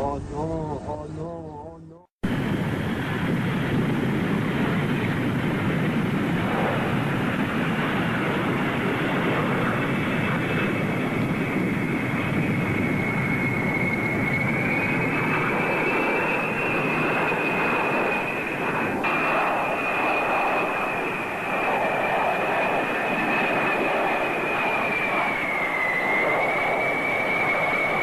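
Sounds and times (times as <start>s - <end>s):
aircraft engine whine: 0.0s - 28.0s.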